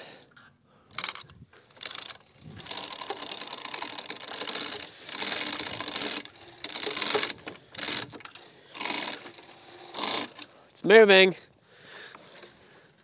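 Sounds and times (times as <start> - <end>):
chain hoist ratcheting clicks: 0.9 - 10.5, 11.8 - 13.0.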